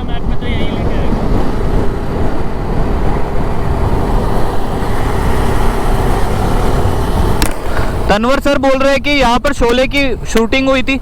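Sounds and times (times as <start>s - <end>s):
motorcycle engine at speed: 0.0s - 8.8s
wind noise: 0.0s - 11.0s.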